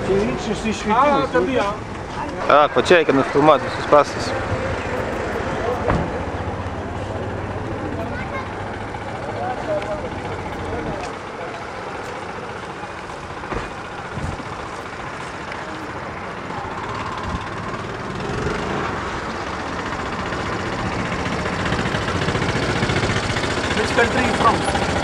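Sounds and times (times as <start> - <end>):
road traffic engines: 0.0 - 25.0.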